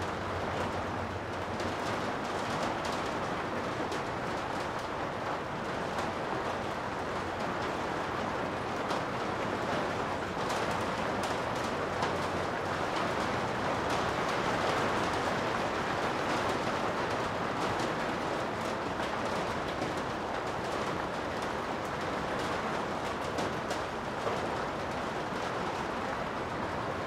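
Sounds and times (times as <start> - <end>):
raindrop taps: 0.0 - 26.8
steady rain hiss: 0.0 - 27.0.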